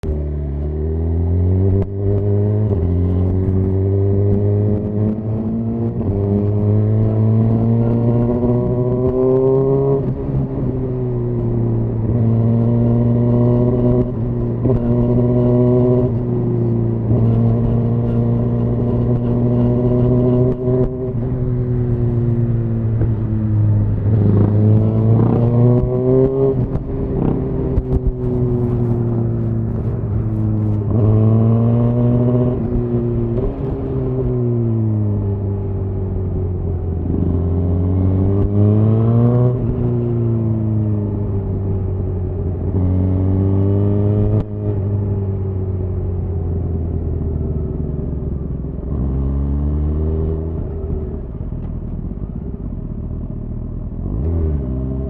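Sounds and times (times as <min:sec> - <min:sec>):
motorcycle engine revving through gears: 0:00.0 - 0:55.0.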